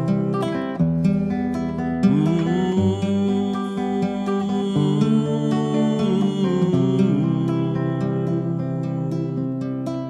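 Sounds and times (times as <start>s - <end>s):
fingerpicked classical guitar: 0.0s - 10.0s.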